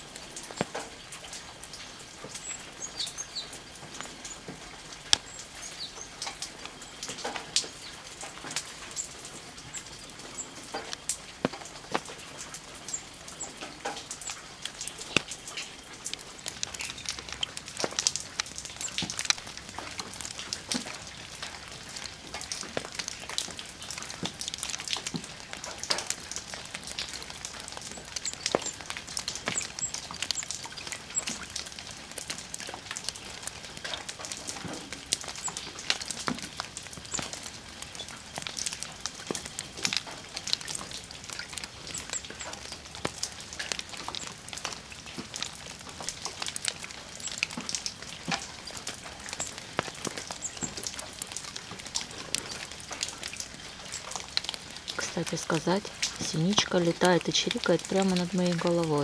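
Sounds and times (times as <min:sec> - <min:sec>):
water drops dripping on stone: 0:00.0 - 0:59.0.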